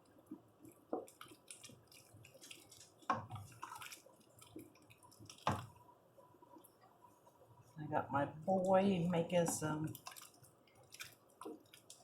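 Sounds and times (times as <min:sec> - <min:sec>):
wet squishing of stew: 0:00.0 - 0:07.8, 0:08.4 - 0:12.0.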